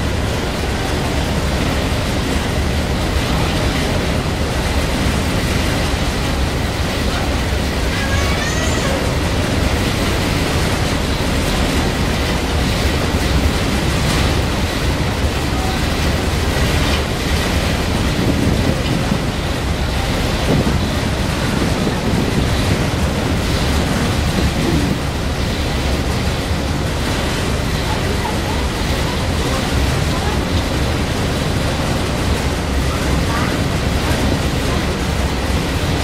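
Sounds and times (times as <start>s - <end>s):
deep rumble: 0.0s - 36.0s
rushing water: 0.0s - 36.0s
rushing wind: 0.0s - 36.0s.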